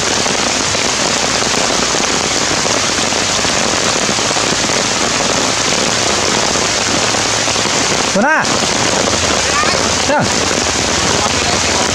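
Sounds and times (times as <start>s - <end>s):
heavy rain: 0.0s - 11.9s.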